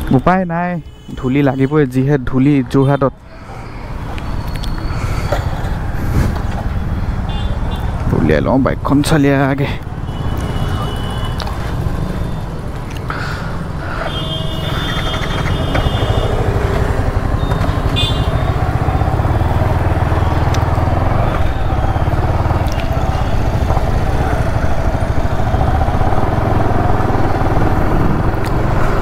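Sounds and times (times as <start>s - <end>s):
motorcycle engine rumble: 3.8s - 9.0s, 9.6s - 29.0s.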